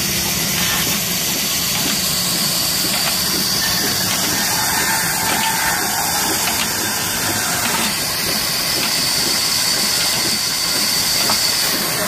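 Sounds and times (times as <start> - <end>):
belt drive mechanical din: 0.9 - 11.7.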